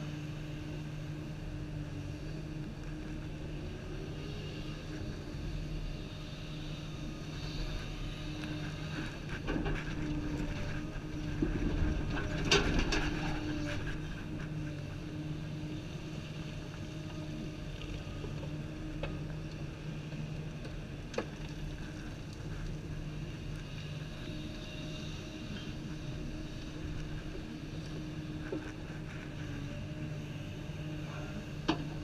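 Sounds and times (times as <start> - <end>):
excavator diesel engine running: 0.2 - 32.0.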